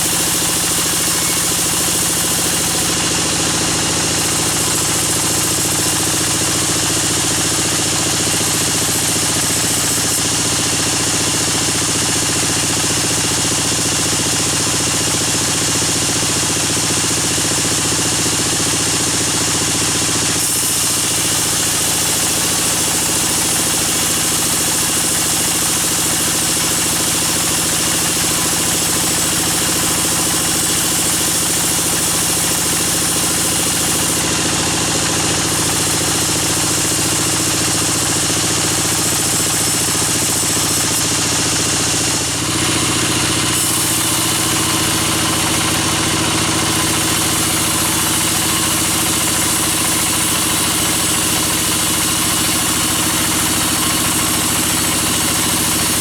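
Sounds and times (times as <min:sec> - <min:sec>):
bandsaw machinery running: 0:00.0 - 0:56.0.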